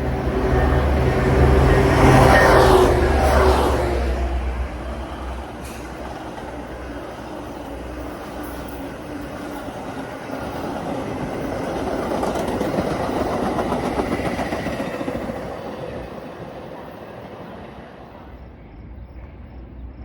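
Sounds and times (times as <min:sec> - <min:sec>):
train passing by: 0:00.0 - 0:20.0.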